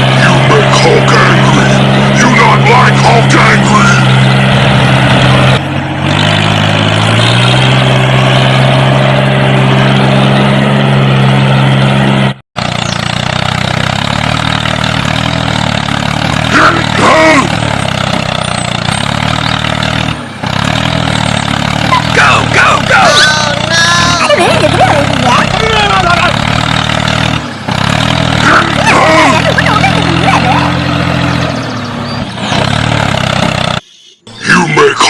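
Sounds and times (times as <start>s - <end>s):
rough engine sound: 0.0s - 35.0s
truck engine running: 0.0s - 35.0s.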